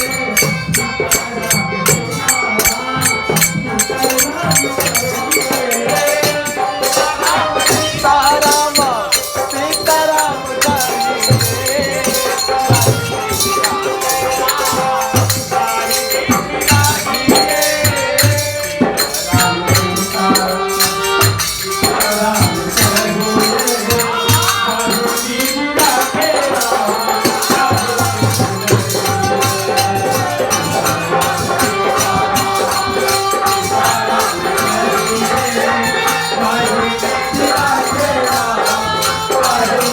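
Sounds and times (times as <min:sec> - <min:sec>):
group devotional singing: 0:00.0 - 0:39.9
shaken rattle percussion: 0:00.0 - 0:39.9.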